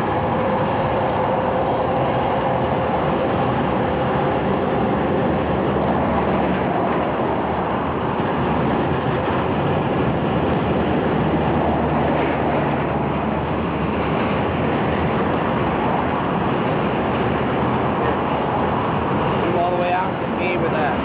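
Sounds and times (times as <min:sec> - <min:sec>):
freight train wagons rolling on rails: 0:00.0 - 0:21.0.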